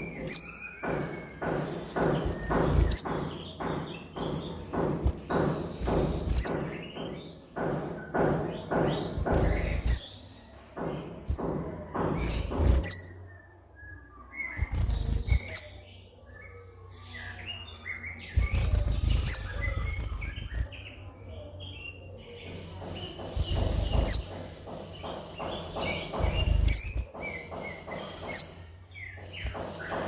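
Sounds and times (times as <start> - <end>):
bird scratchy chirping: 0.0 - 30.0.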